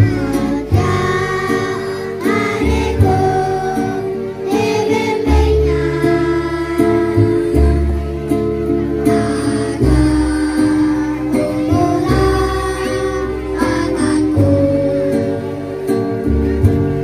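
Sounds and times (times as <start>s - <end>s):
children singing into microphone: 0.0s - 8.1s, 9.0s - 15.5s
instrumental accompaniment: 0.0s - 17.0s.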